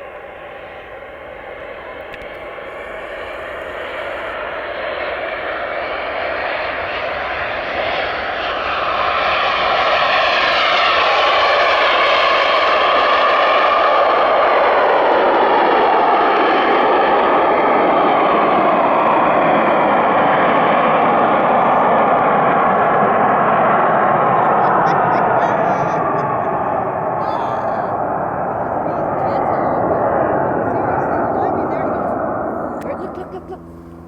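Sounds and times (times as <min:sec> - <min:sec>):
jet aircraft engine roar passing: 0:00.0 - 0:34.0.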